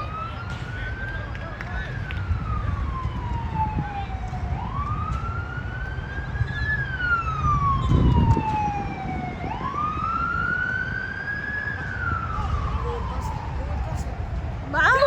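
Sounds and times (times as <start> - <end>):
wailing siren: 0.0 - 15.0.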